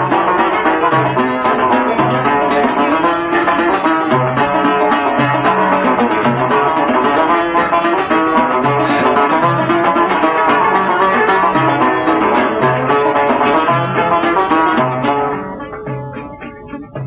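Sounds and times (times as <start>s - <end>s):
plucked string ensemble melody: 0.0s - 17.0s.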